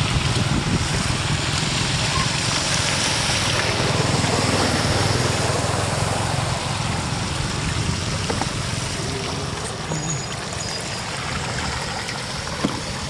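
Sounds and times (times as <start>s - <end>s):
floodwater running and trickling: 0.0s - 13.0s.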